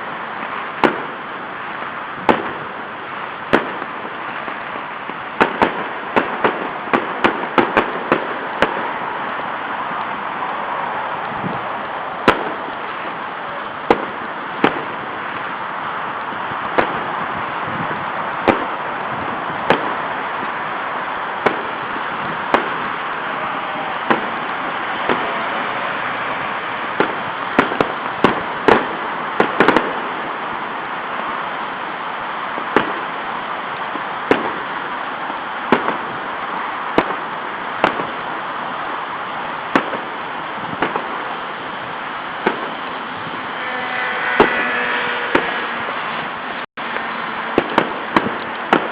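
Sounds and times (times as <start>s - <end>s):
fireworks banging: 0.0s - 48.9s
steady background hiss: 0.0s - 48.9s.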